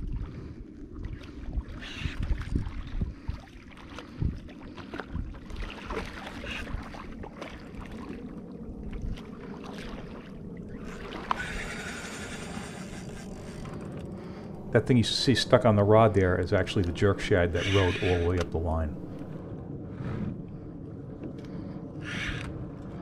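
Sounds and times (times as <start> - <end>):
water lapping against boat hull: 0.0 - 19.4
wind buffeting microphone: 0.0 - 23.0.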